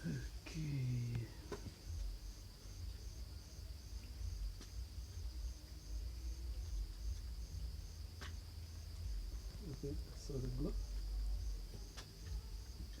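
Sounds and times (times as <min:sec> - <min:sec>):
constant high buzz: 0:00.0 - 0:13.0
insects chirping: 0:00.0 - 0:13.0
low hum: 0:00.0 - 0:13.0.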